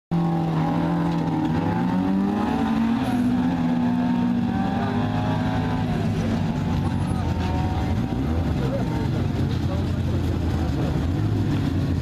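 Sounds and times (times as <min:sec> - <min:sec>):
car engines idling: 0:00.1 - 0:12.0.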